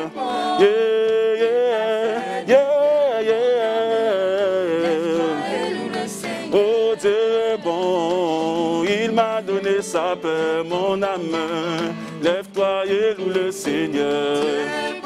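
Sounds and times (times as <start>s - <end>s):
electronic keyboard accompaniment: 0.0s - 15.0s
voices singing slow melody: 0.0s - 15.0s.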